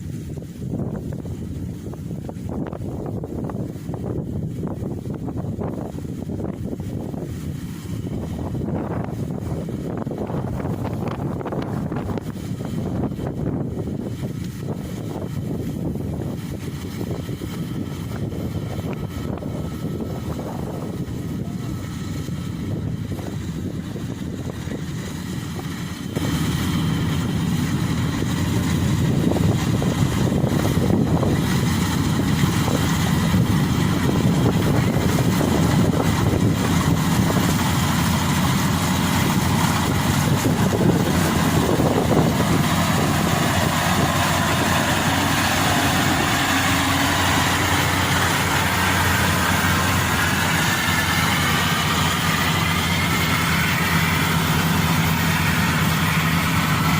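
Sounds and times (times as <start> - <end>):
combine harvester engine running: 0.0 - 56.9
faint rising whine: 0.0 - 56.9.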